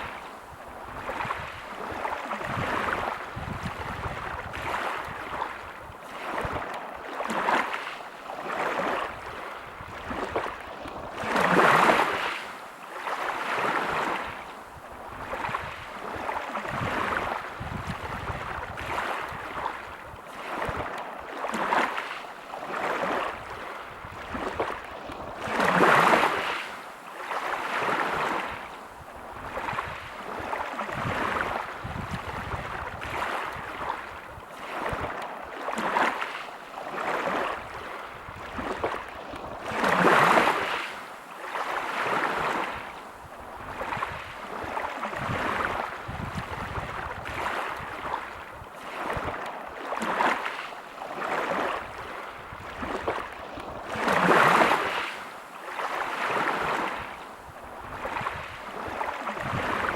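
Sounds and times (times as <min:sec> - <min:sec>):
waves breaking on pebble beach: 0:00.0 - 0:14.4, 0:15.2 - 0:28.6, 0:29.4 - 0:42.9, 0:43.6 - 0:57.2.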